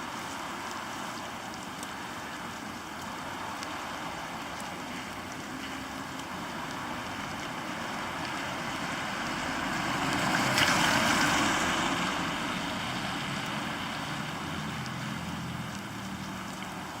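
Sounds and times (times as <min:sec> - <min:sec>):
heavy rain on a poncho: 0:00.0 - 0:17.0.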